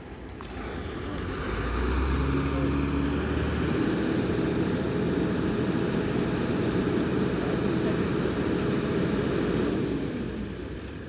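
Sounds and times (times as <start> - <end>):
truck diesel engine running: 0.5 - 11.0.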